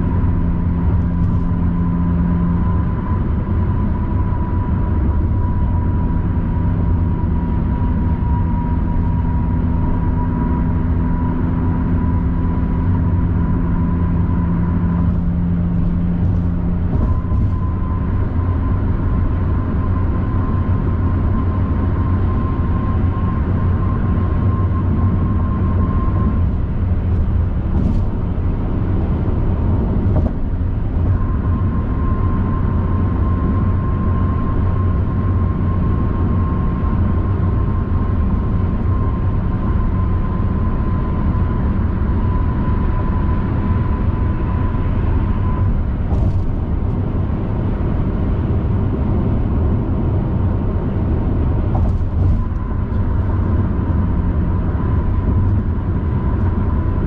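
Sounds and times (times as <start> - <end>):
car tyres and engine rumble: 0.0 - 57.0
faint steady whine: 0.0 - 57.0.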